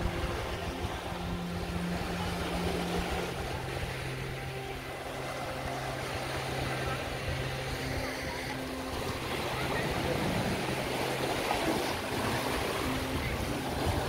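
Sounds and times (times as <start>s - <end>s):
motorboat engine humming: 0.0s - 14.0s
small waves washing onto beach: 0.0s - 14.0s.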